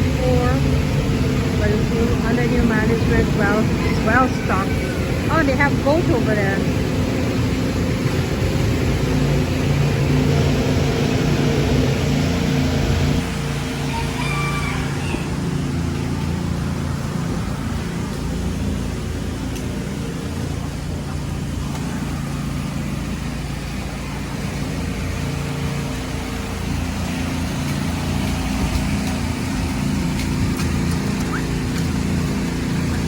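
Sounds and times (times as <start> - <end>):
constant rushing noise: 0.0 - 33.0
low mechanical hum: 0.0 - 33.0.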